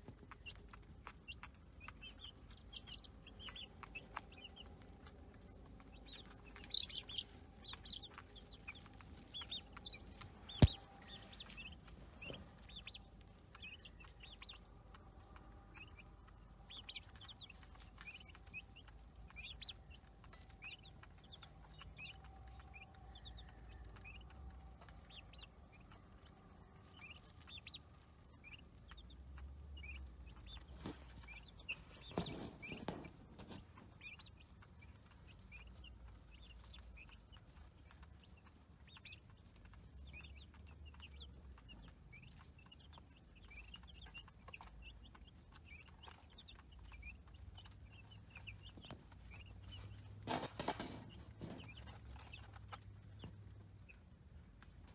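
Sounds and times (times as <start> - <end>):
baby chicks peeping: 0.0 - 54.9.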